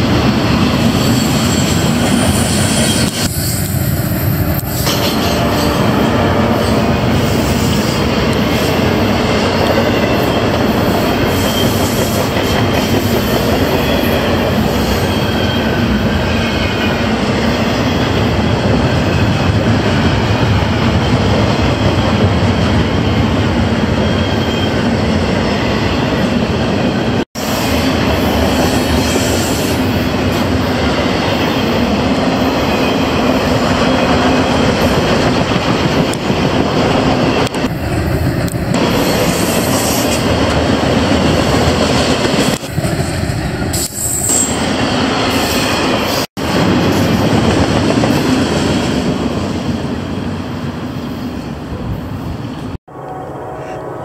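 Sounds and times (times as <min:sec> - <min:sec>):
train wheels on rails: 0:00.0 - 0:53.8.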